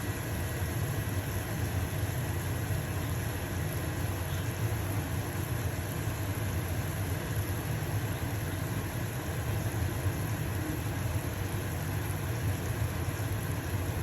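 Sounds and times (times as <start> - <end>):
range hood fan humming: 0.0 - 14.0.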